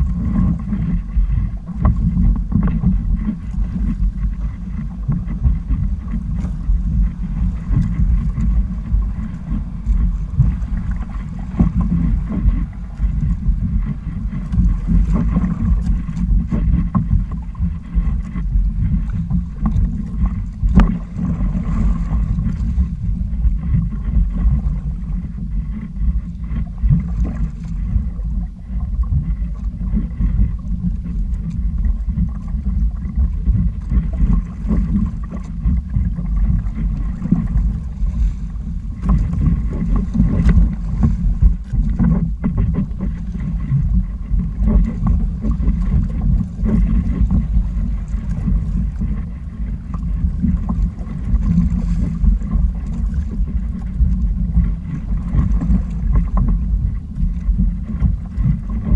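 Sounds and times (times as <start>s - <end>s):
water slapping against hulls: 0.0s - 58.9s
wind buffeting microphone: 0.0s - 58.9s.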